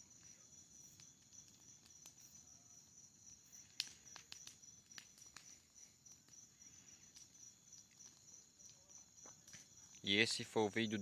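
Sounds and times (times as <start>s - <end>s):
bonfire popping and crackling: 0.0s - 11.0s
crickets chirping: 0.0s - 11.0s.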